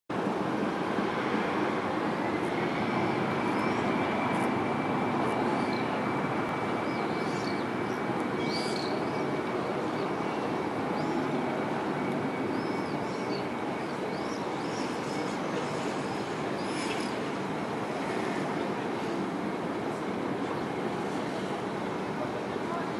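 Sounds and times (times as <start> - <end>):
jet engines roaring: 0.2 - 22.9.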